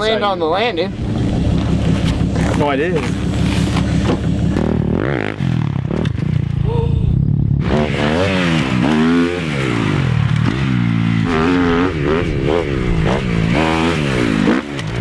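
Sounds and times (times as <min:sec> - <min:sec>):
dirt bike engine revving: 0:00.9 - 0:06.7, 0:07.4 - 0:15.0.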